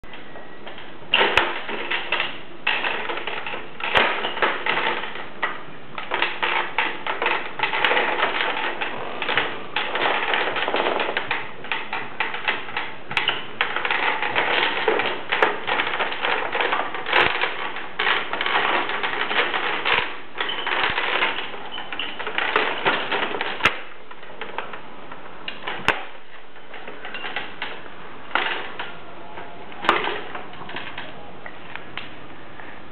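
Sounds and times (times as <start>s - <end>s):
baby swing clicking and rattling: 0.7s - 32.2s.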